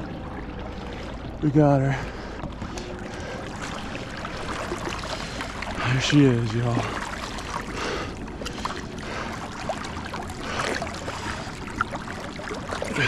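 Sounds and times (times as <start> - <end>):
water drips and gurgles: 0.0 - 13.0
water sloshing against boat: 0.0 - 13.0.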